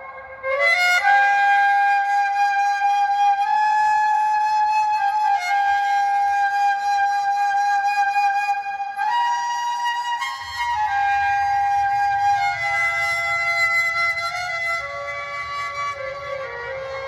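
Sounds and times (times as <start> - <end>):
flute-like music over sound system: 0.0 - 17.0.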